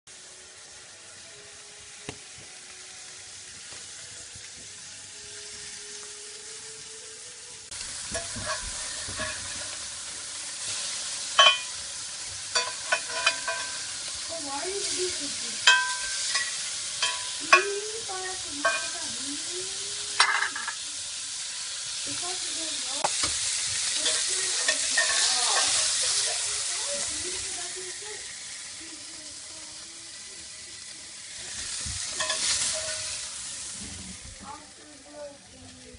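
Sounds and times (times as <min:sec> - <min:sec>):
burger patties sizzling on grill: 0:00.1 - 0:35.9.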